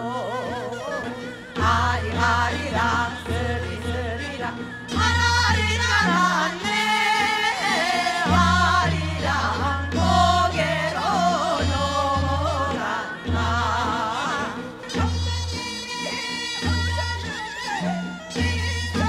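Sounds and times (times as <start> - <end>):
women singing folk song: 0.0 - 17.0.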